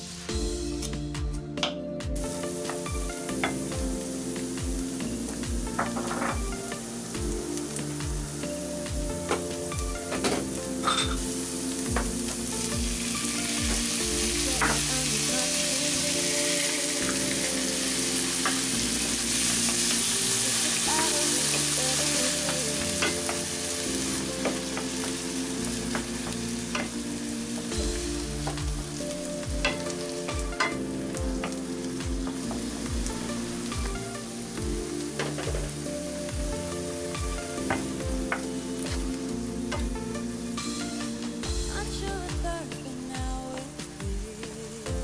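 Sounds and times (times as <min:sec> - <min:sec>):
onion and tomatoes sizzling in oil: 0:00.0 - 0:45.0.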